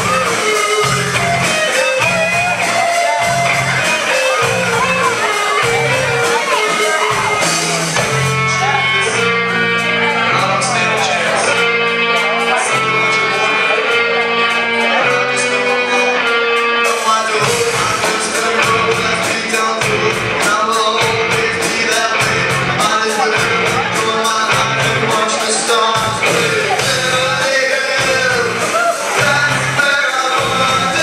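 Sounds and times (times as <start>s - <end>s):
man singing: 0.0s - 31.0s
punk rock band playing: 0.0s - 31.0s.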